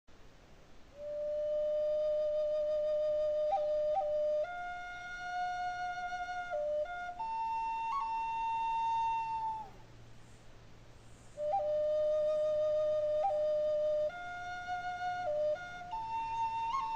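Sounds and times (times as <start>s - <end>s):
flute playing slow melody: 0.9s - 9.9s, 11.3s - 16.9s.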